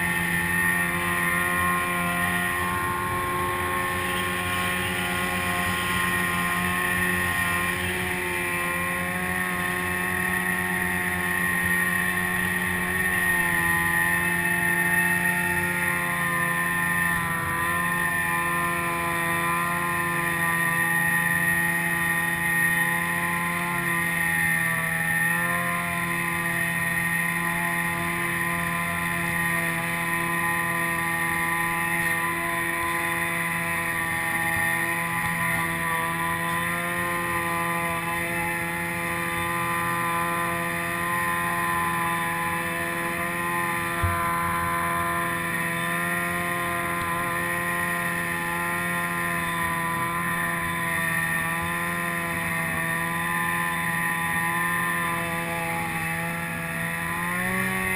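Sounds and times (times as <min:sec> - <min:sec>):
snowmobile engine running: 0:00.0 - 0:57.9.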